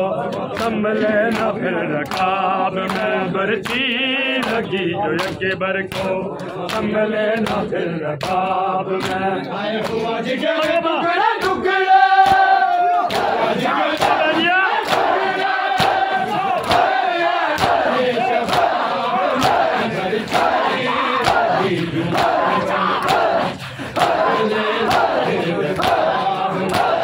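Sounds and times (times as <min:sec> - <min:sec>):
men chanting in chorus: 0:00.0 - 0:27.0.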